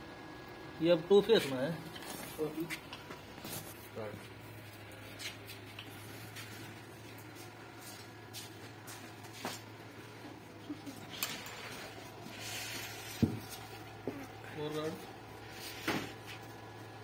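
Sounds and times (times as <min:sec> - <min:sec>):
welder cooling fan humming: 0:00.0 - 0:17.0.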